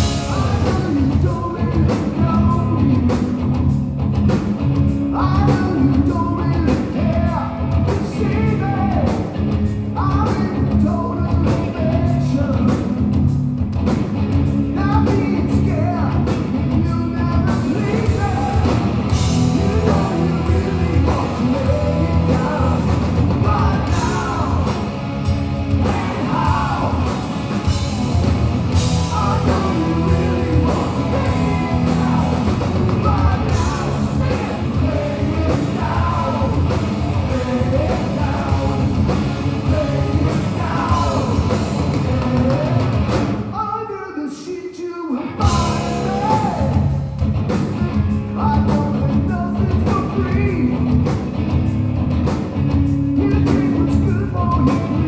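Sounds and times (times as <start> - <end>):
person singing lead vocal: 0.0 - 3.4, 5.1 - 13.0, 14.7 - 25.0, 25.7 - 28.0, 28.7 - 51.0, 53.2 - 55.0
bass guitar: 0.0 - 43.6, 45.2 - 55.0
distorted electric guitars: 0.0 - 43.6, 45.1 - 55.0
drums: 0.0 - 55.0.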